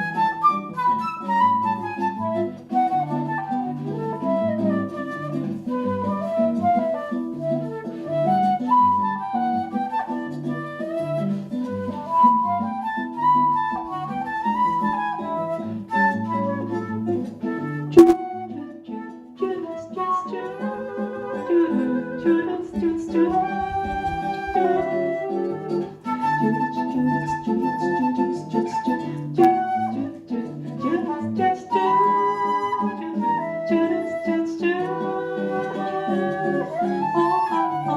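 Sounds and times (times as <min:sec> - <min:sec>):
flute melody: 0:00.0 - 0:37.9
guitar chords: 0:00.0 - 0:37.9.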